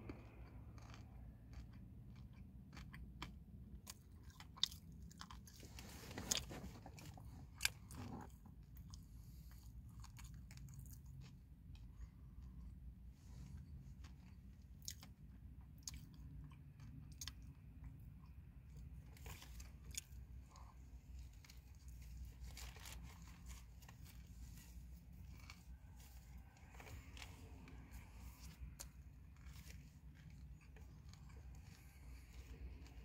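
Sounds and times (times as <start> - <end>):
person chewing and crunching: 0.0 - 33.0.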